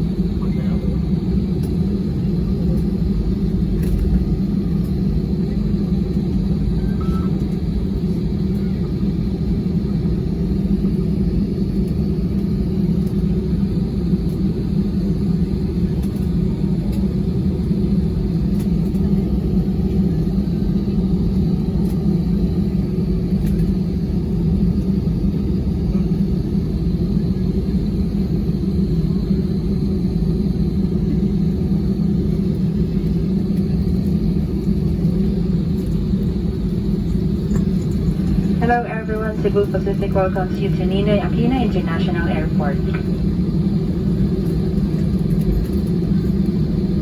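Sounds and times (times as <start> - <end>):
airplane cabin low rumble: 0.0 - 47.0.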